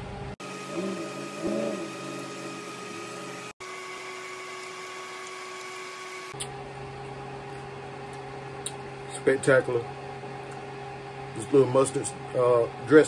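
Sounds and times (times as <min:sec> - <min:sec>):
machine hum with faint tones: 0:00.0 - 0:13.0.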